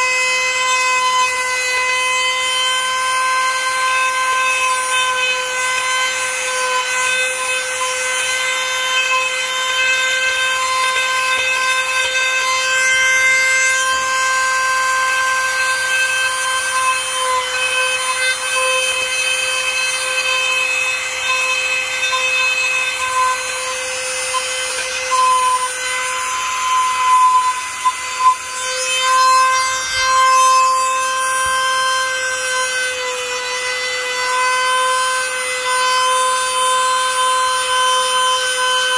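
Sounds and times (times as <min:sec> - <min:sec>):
power tool whining: 0:00.0 - 0:38.9.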